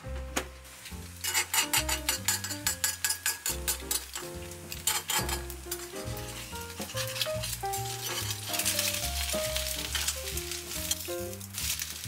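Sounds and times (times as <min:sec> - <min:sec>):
background music with bass line: 0:00.0 - 0:02.8, 0:03.5 - 0:12.0
eggs sizzling in a pan: 0:00.4 - 0:12.0
metal spatula scraping a pan: 0:00.8 - 0:12.0.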